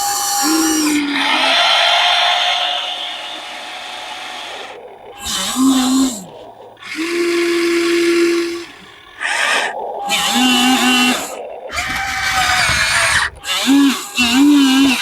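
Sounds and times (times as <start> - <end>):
electric motor whining: 0.0 - 4.0, 5.2 - 15.0
hiss: 0.0 - 6.2, 6.8 - 15.0.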